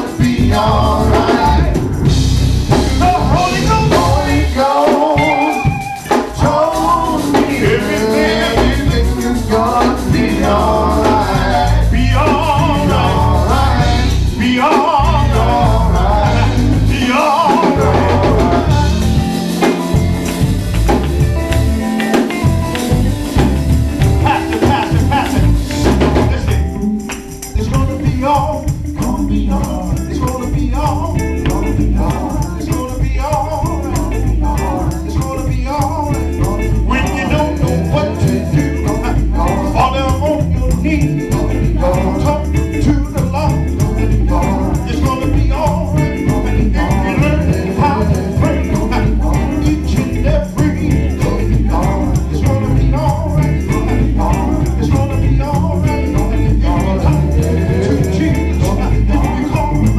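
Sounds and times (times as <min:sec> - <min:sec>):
band with heavy bass: 0:00.0 - 0:59.9
men singing gospel: 0:00.0 - 0:59.9
steady drum beat: 0:00.0 - 0:59.9.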